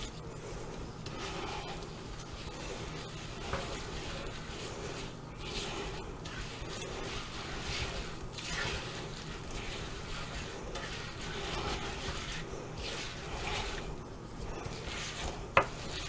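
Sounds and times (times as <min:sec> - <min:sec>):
spoon stirring sticky mixture: 0:00.0 - 0:16.0.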